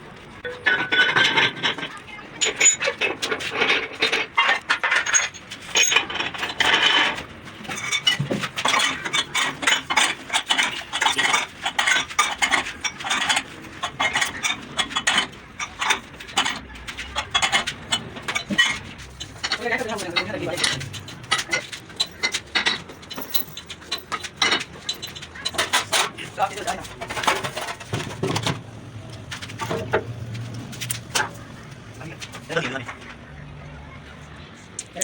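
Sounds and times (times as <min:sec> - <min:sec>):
hand tools clinking and scraping: 0:00.1 - 0:33.4.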